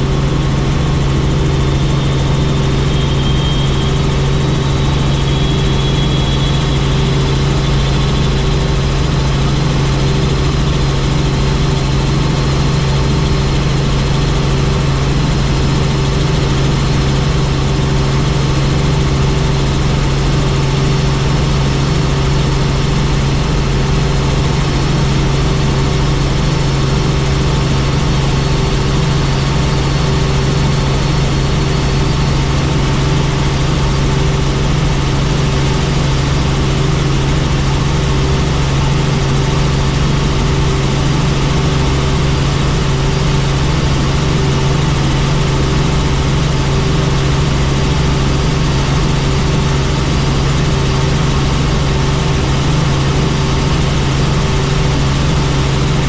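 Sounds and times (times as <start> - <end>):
helicopter drone: 0.0 - 56.0.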